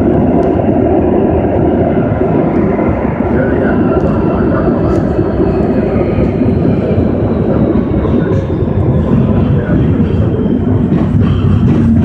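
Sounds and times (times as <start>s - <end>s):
train running through a tunnel: 0.0s - 12.0s.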